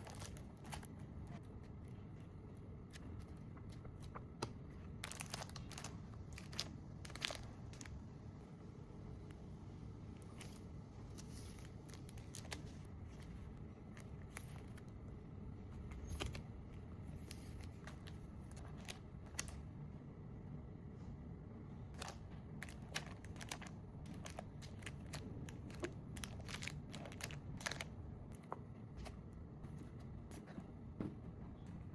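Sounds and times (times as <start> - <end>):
packaging crinkling: 0.0 - 8.3, 10.2 - 15.1, 15.8 - 19.6, 22.0 - 30.5
low steady hum: 0.0 - 31.9.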